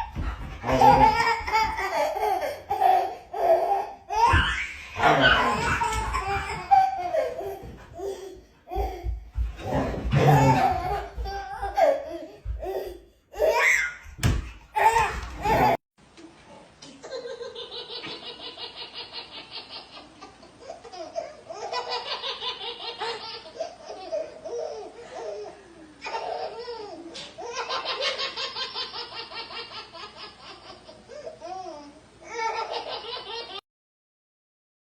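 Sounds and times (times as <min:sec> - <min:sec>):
baby laughing: 0:00.0 - 0:15.8, 0:17.0 - 0:33.6.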